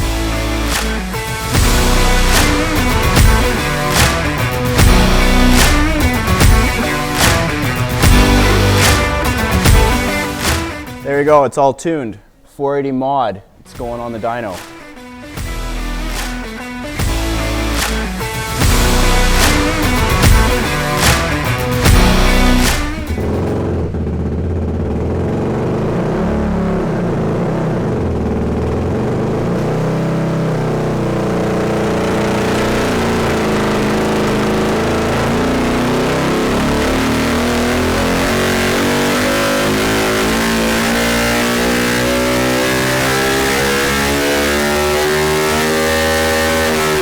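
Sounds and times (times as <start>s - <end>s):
dirt bike engine revving up: 0.0s - 11.0s, 18.6s - 47.0s.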